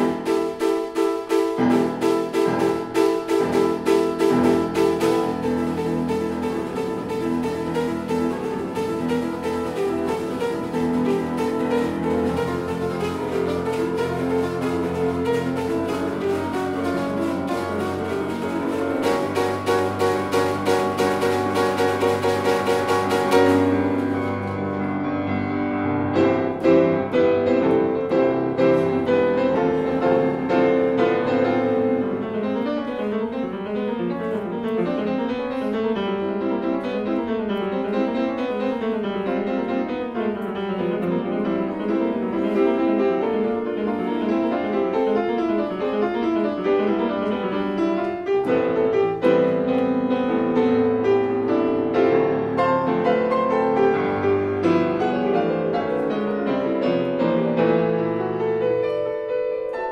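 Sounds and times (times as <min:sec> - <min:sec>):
grand piano playing: 0:00.0 - 0:59.9.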